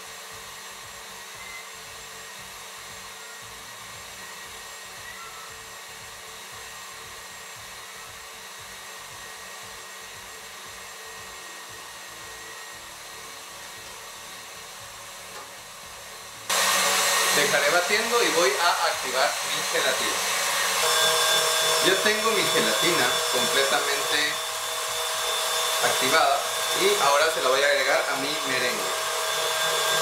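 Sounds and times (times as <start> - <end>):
electric stand mixer whirring: 0.0 - 30.0.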